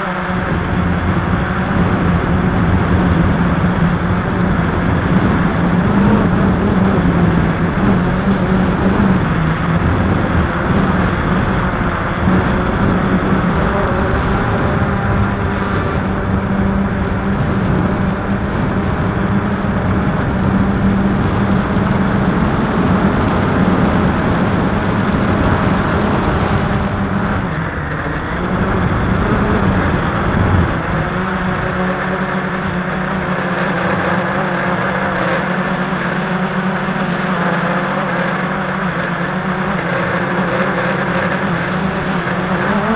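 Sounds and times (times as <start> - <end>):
drone propellers humming: 0.0 - 42.9.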